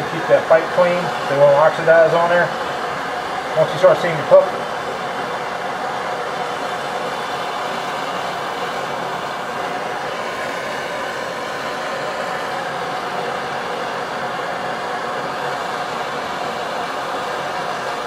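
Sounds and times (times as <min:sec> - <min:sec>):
torch flame hissing: 0:00.0 - 0:18.0.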